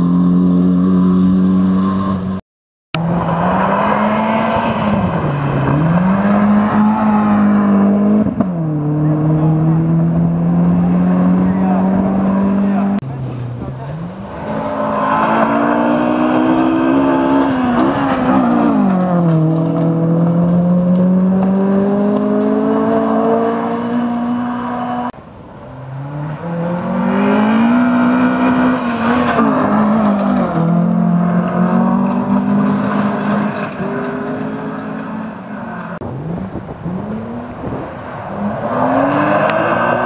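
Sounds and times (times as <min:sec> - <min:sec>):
rally car engine at full throttle: 0:00.0 - 0:40.0.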